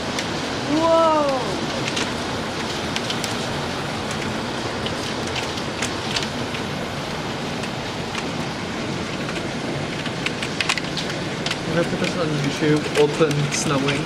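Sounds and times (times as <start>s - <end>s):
hail ticking on hard surfaces: 0.0s - 14.0s
hailstones falling: 0.0s - 14.0s.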